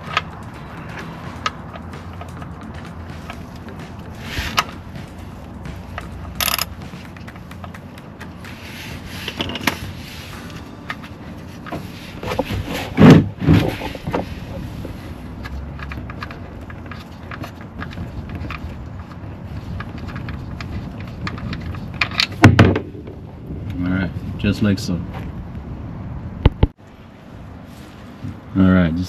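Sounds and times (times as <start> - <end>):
hand tools on metal parts: 0.0 - 23.3.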